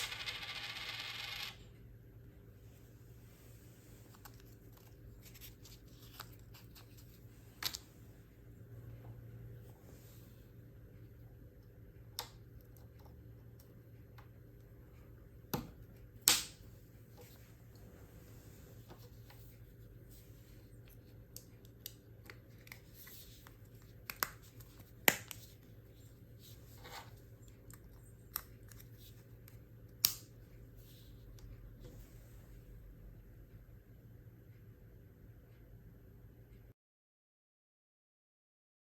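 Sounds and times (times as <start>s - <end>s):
steady low hum: 0.0s - 36.8s.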